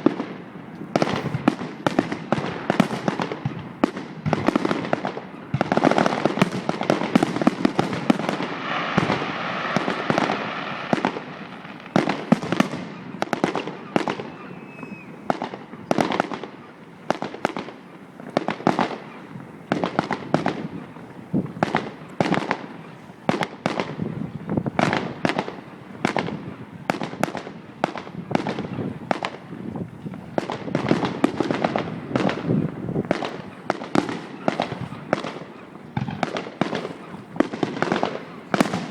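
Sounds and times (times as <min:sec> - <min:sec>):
fireworks bursts and bangs: 0:00.0 - 0:38.9.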